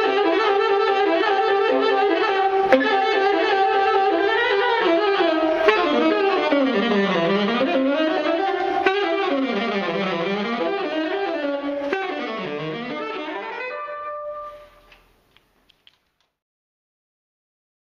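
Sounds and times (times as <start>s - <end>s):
solo saxophone improvising: 0.0s - 15.2s.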